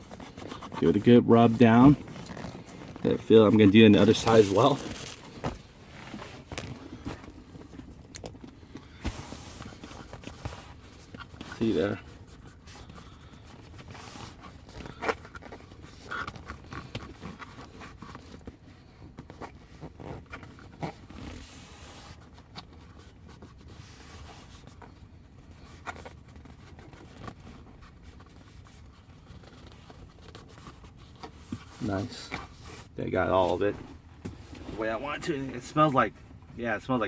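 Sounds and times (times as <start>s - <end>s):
applicator rubbing on plastic: 0.0s - 8.5s, 9.4s - 35.5s.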